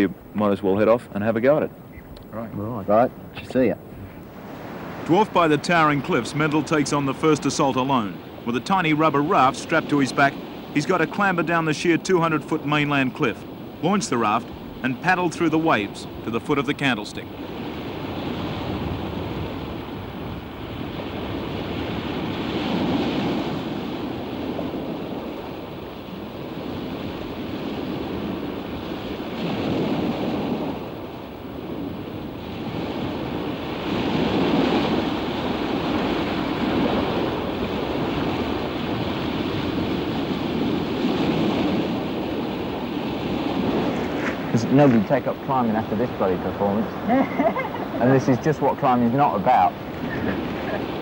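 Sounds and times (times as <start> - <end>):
sea surf breaking on rocks: 4.0 - 51.0.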